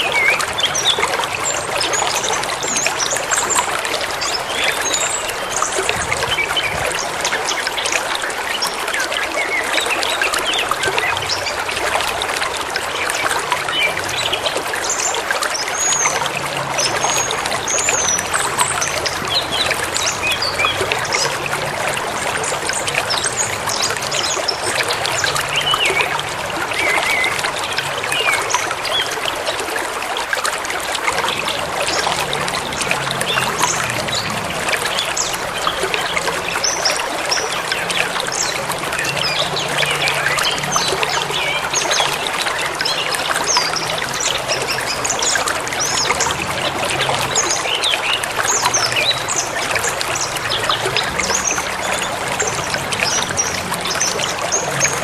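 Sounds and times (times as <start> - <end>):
stream babbling: 0.0 - 55.0.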